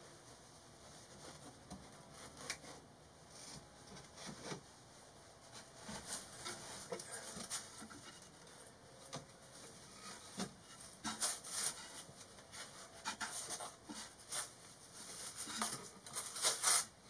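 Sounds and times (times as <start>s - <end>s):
insulation rustling and rubbing: 0.0s - 17.0s.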